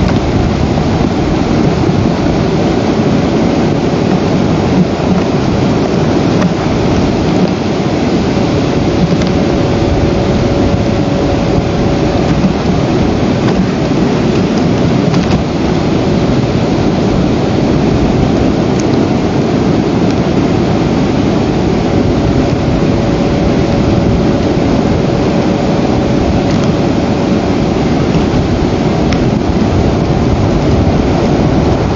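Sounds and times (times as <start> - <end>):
loud rushing noise: 0.0 - 31.9.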